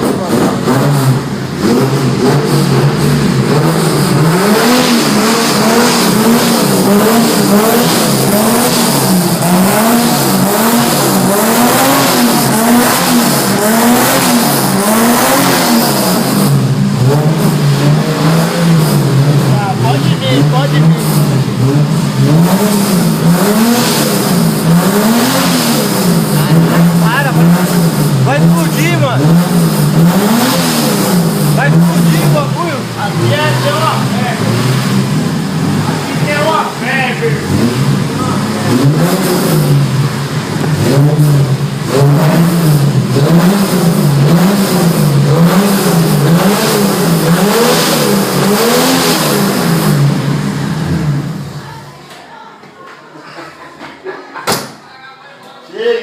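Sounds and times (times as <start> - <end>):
car engine idling and revving: 0.0 - 51.7.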